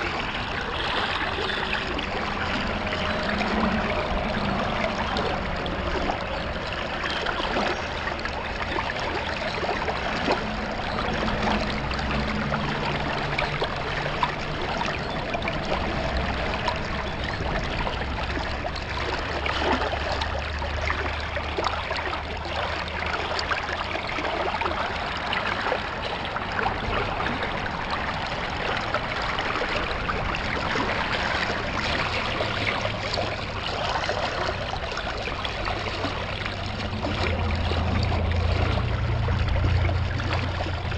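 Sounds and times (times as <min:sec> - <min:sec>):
water rushing through a sluice: 0:00.0 - 0:40.9.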